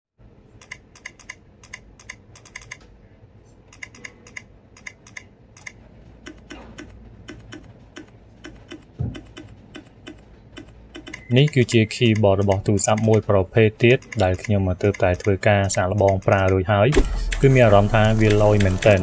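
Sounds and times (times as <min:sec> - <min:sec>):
simulated keyboard key clicks: 0:00.6 - 0:02.9, 0:03.7 - 0:13.3, 0:13.9 - 0:17.5.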